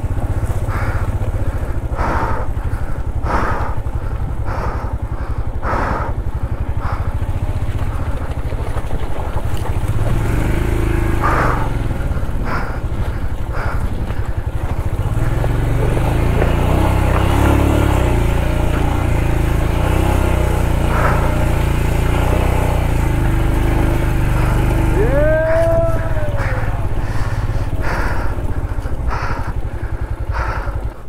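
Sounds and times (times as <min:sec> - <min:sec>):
motorcycle engine at low revs: 0:00.0 - 0:31.0.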